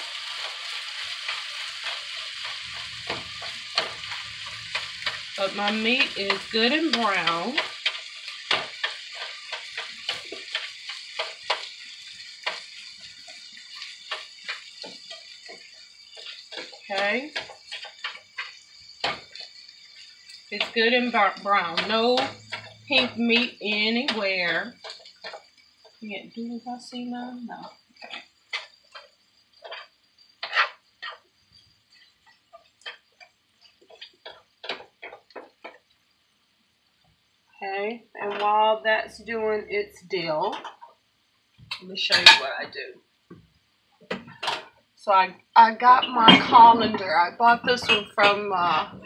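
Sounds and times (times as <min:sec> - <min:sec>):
utensil scraping a skillet: 0:00.0 - 0:35.8, 0:41.7 - 0:42.7, 0:45.8 - 0:49.0
meat sizzling in a skillet: 0:00.0 - 0:49.0.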